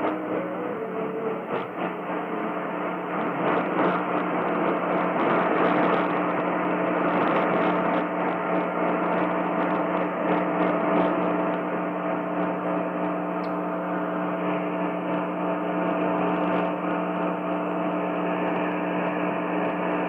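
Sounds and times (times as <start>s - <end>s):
faint steady tones: 0.0s - 20.0s
low hum: 0.0s - 20.0s
radio static hiss: 0.0s - 20.0s.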